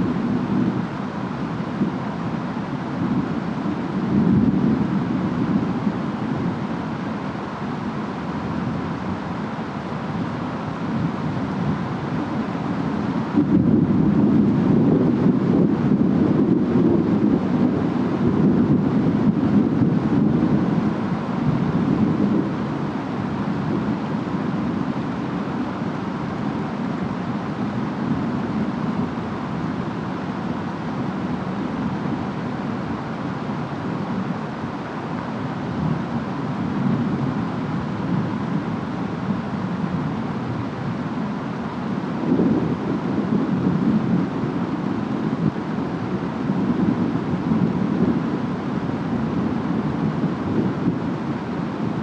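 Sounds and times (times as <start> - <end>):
wind: 0.0 - 52.0.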